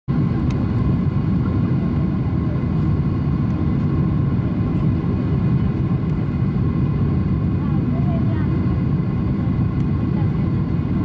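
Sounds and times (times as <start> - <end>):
jet engines rumbling: 0.1 - 11.0.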